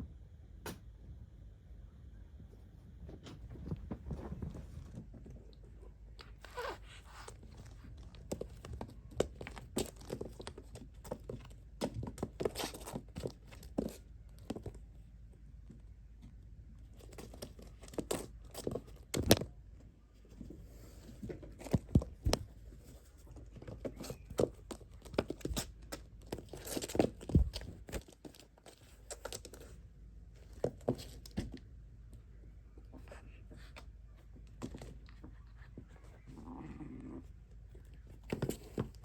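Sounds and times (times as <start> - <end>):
kittens scrambling and tumbling: 2.8 - 14.9, 16.3 - 31.7, 32.8 - 39.0.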